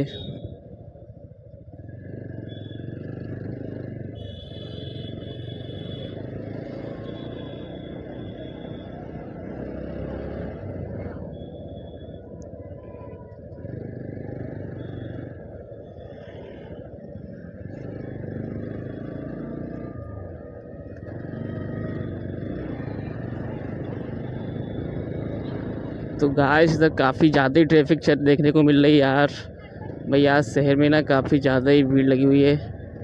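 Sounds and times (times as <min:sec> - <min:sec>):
road noise: 0:00.0 - 0:33.0
motorcycle engine running: 0:00.1 - 0:33.0.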